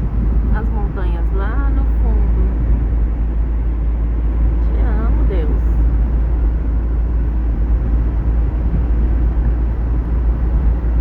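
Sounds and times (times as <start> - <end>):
car engine rumble: 0.0 - 11.0
road noise: 0.0 - 11.0
wind noise: 0.0 - 11.0.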